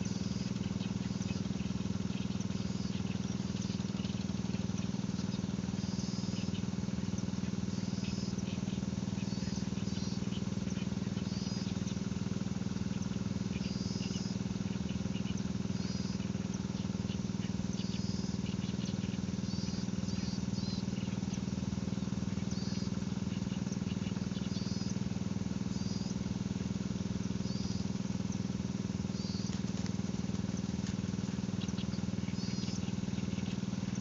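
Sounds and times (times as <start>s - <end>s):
low mechanical hum: 0.0s - 34.0s
small birds chirping: 0.0s - 34.0s.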